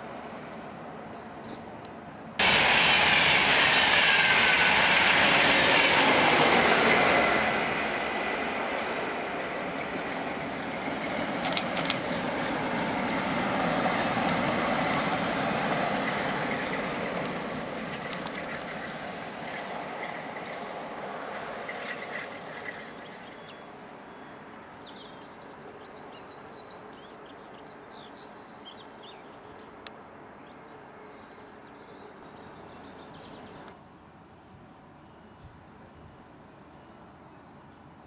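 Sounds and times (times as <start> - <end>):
diesel locomotive engine: 0.0 - 38.0
rail noise: 0.0 - 38.0.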